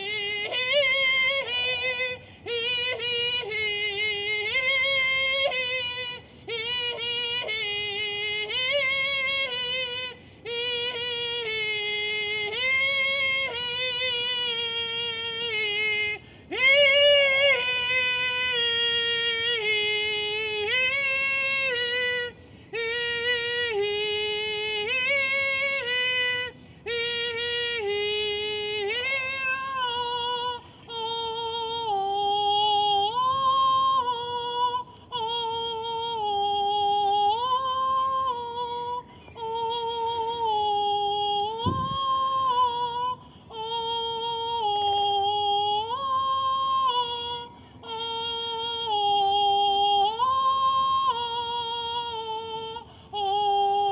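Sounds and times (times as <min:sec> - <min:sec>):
woman singing a chant: 0:00.0 - 0:53.9.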